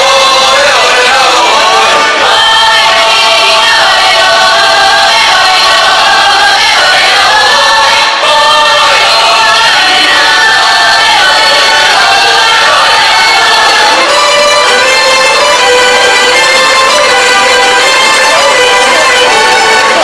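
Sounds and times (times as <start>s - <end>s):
group of voices singing: 0.0s - 20.0s
string ensemble playing folk music: 0.0s - 20.0s.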